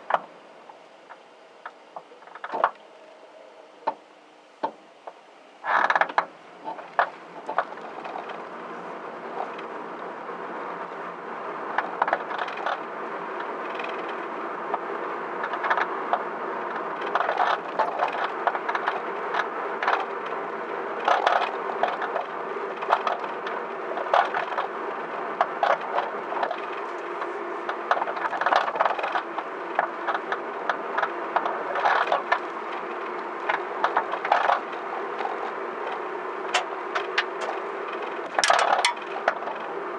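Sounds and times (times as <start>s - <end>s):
suspension clicks and creaks: 0.0s - 2.8s, 4.6s - 39.9s
steady background noise: 0.0s - 39.9s.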